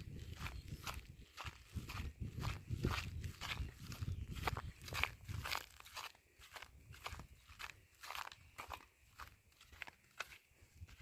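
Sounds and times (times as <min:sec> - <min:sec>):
footsteps on dry ground: 0:00.0 - 0:11.0.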